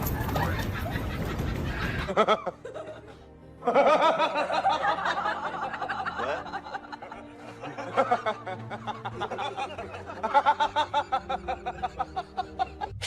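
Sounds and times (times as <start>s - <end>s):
laughter: 0.0s - 13.0s
music: 0.0s - 13.0s.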